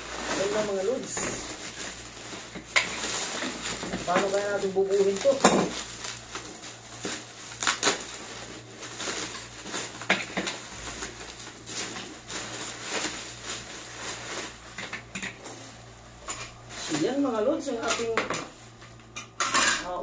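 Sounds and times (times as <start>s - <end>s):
bubble wrap crinkling: 0.0s - 19.2s.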